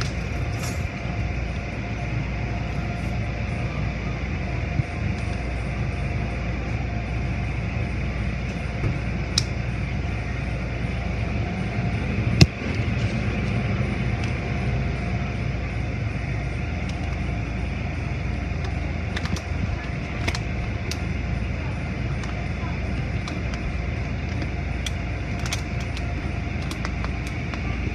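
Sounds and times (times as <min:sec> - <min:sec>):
car wash machinery rumble and hiss: 0:00.0 - 0:27.9.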